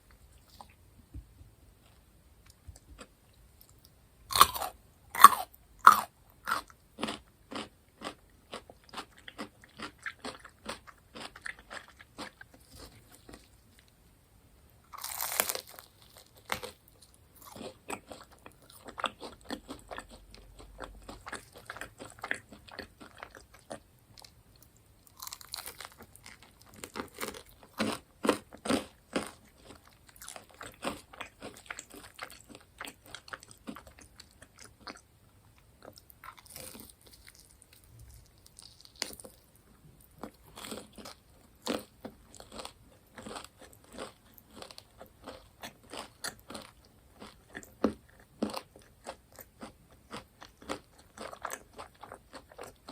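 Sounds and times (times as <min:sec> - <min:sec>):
crunching and chewing crisp food: 0:00.0 - 0:00.8, 0:01.7 - 0:14.1, 0:14.8 - 0:52.9.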